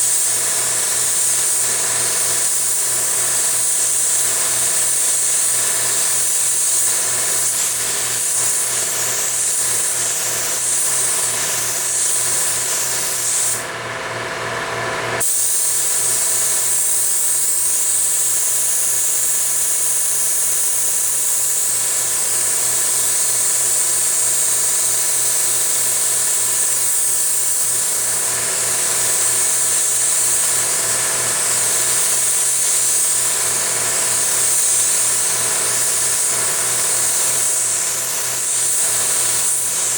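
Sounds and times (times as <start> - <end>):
spray gun air hissing: 0.0 - 13.7, 15.2 - 39.9.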